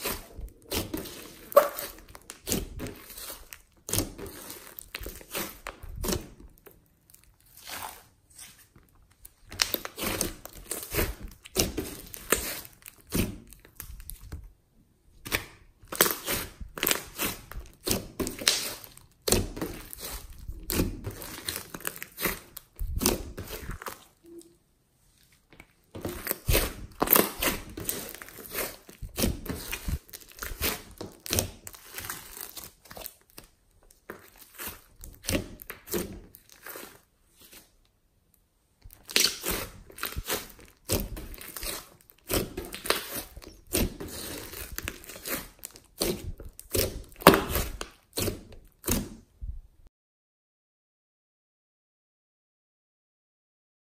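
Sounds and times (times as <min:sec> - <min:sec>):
slime crackling and popping: 0:00.0 - 0:08.1, 0:09.1 - 0:14.4, 0:15.2 - 0:24.4, 0:25.9 - 0:37.0, 0:38.9 - 0:49.2.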